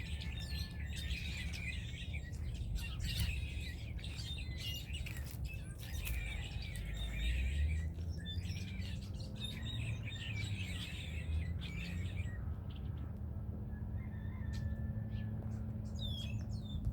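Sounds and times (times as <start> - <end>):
flock of birds chirping: 0.0 - 16.9.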